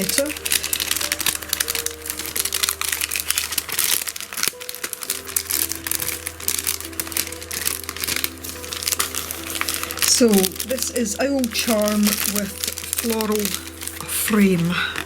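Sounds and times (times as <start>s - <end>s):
plastic packet crinkling: 0.0s - 15.0s
soft background music: 0.0s - 15.0s.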